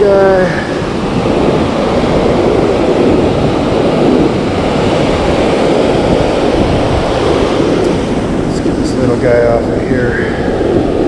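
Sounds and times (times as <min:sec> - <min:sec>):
ocean surf rushing: 0:00.0 - 0:11.0
wind buffeting microphone: 0:00.0 - 0:11.0.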